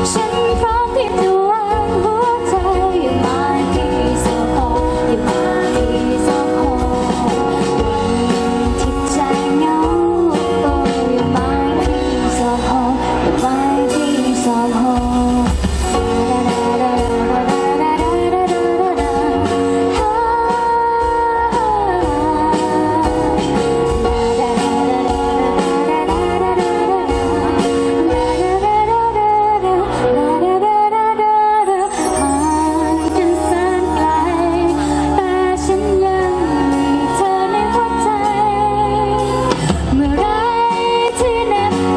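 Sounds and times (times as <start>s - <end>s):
drums: 0.0s - 41.9s
guitar: 0.0s - 41.9s
woman singing into a microphone: 0.0s - 41.9s.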